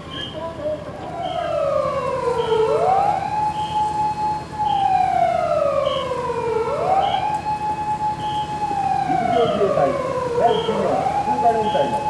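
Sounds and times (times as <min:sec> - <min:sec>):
fainter higher siren: 0:00.0 - 0:12.0
fire engine siren wailing: 0:00.0 - 0:12.0.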